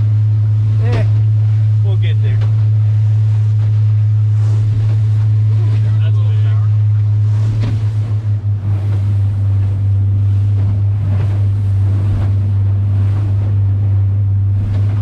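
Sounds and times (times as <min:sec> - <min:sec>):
boat engine droning: 0:00.0 - 0:15.0
waves splashing against hull: 0:00.0 - 0:15.0
wind: 0:00.0 - 0:15.0.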